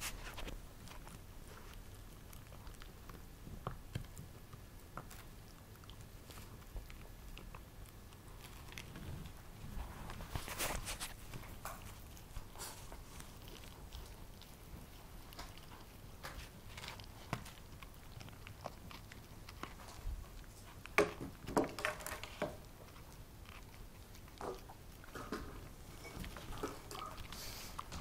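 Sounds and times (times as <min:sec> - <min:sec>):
dog gnawing on a chew: 0:00.0 - 0:28.0.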